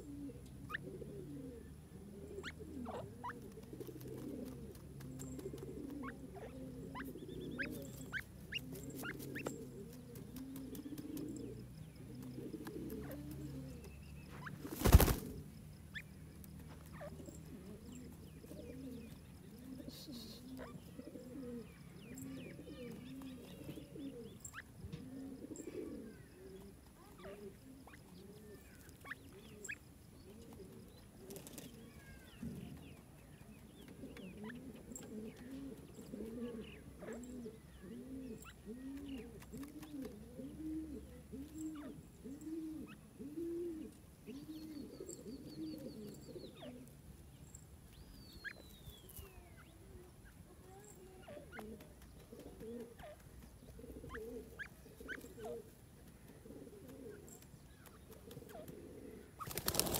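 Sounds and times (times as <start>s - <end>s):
bird cooing: 0.0s - 47.0s, 48.4s - 59.9s.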